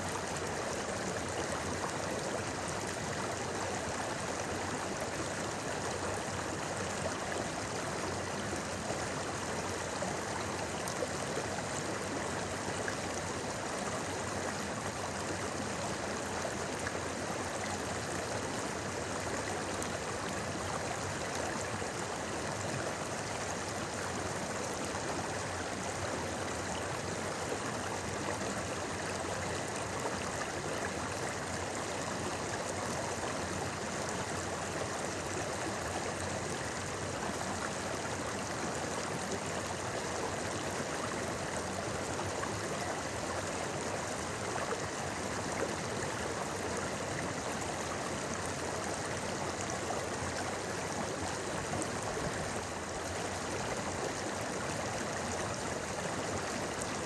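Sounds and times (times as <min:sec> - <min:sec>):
river running over stones: 0:00.2 - 0:57.0.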